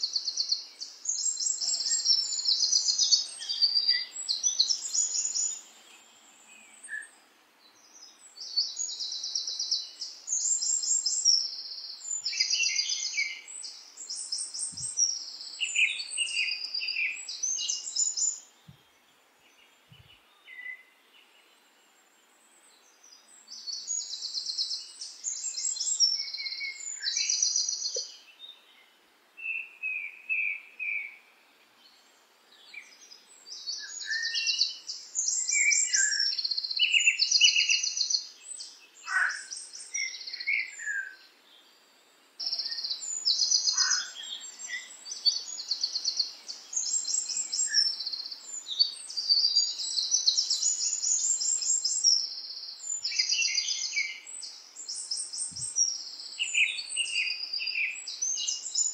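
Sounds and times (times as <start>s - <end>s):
birds chirping and singing: 0.0s - 21.6s, 22.7s - 31.2s, 31.8s - 41.8s, 42.4s - 58.9s.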